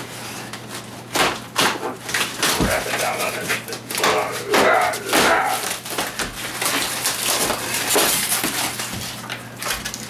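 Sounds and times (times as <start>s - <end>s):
scenery cracking and splintering: 1.1s - 10.0s.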